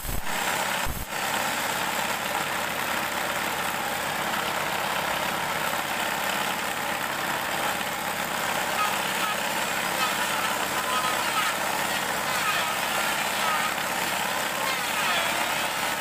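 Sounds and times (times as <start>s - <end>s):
table saw running: 0.2s - 16.0s.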